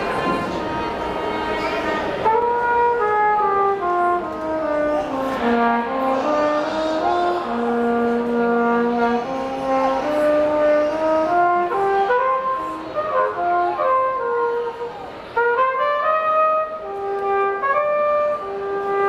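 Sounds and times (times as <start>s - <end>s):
brass horn playing slow melody: 2.2s - 19.0s.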